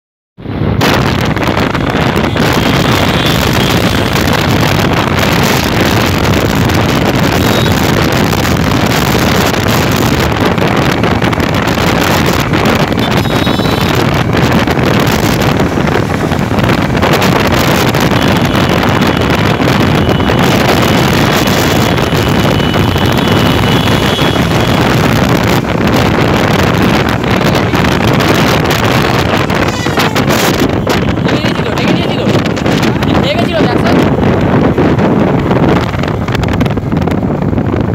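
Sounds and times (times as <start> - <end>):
wind rush on microphone: 0.4 - 37.9
motorcycle engine running: 1.0 - 37.9.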